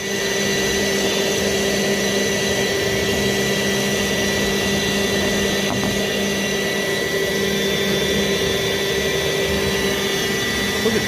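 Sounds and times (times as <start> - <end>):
vacuum humming and whining: 0.0 - 11.0.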